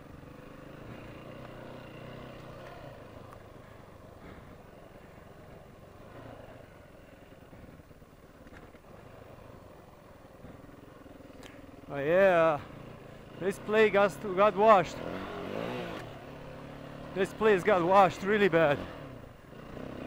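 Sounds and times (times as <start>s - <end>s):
dirt bike engine at low revs: 0.0s - 20.0s.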